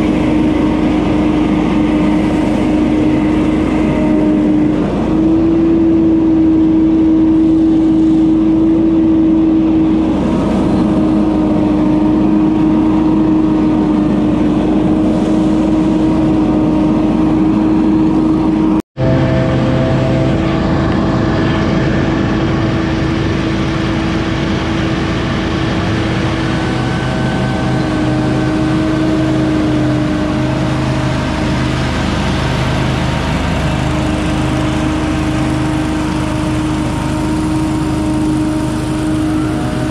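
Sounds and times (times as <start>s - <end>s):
leaf blower engine drone: 0.0s - 39.9s.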